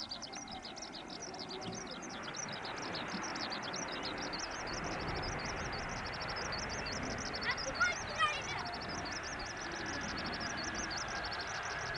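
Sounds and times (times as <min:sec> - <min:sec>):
bird singing high chirps: 0:00.0 - 0:11.9
jet airliner engines roaring: 0:00.0 - 0:11.9.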